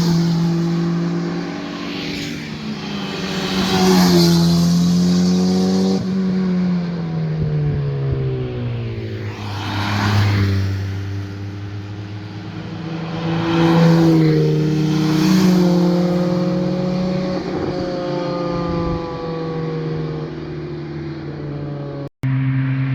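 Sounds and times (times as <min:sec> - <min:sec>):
cars driving past: 0:00.0 - 0:22.9.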